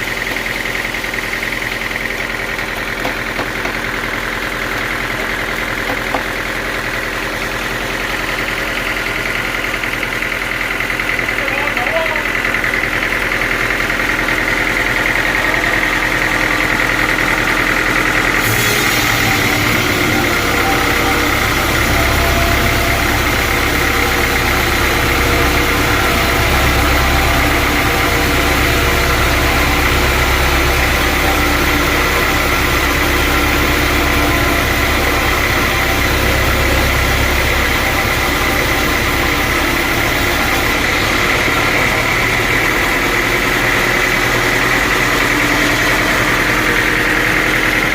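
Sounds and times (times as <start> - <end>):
sawmill machinery whining: 0.0 - 47.9.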